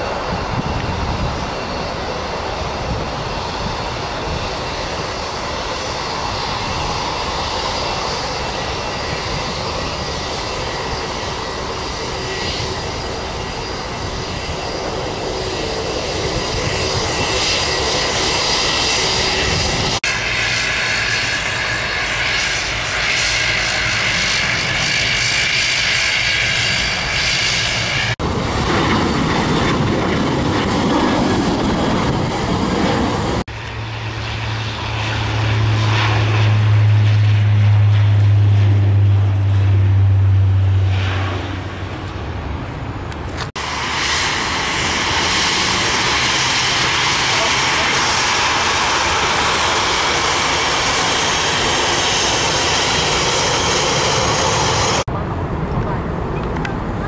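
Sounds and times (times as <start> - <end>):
jet engines roaring with whine: 0.0 - 57.0.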